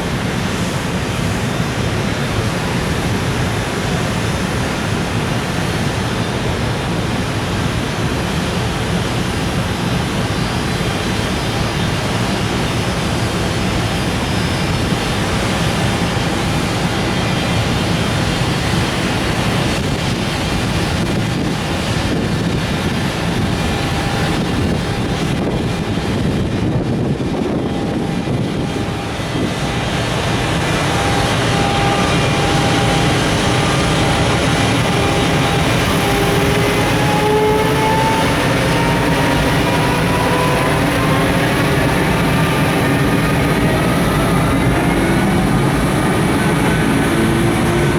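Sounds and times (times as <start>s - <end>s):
freight train wheels rumbling on rail: 0.0s - 47.9s
wind on microphone: 0.0s - 47.9s.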